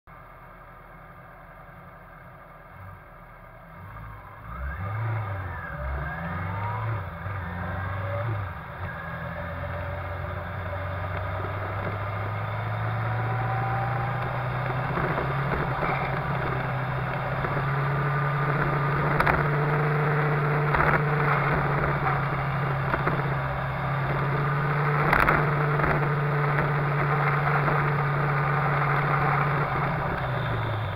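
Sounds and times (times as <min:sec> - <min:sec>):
wind and road noise: 0:02.2 - 0:30.9
motorcycle engine revving: 0:03.9 - 0:30.9.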